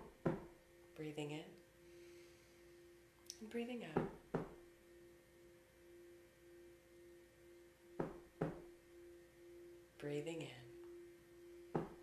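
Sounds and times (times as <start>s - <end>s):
tuning fork ringing: 0.0s - 12.0s.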